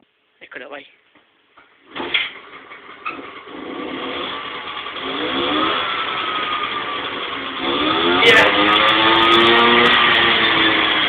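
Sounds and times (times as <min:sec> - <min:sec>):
two-stroke scooter engine starting: 0:01.8 - 0:11.0.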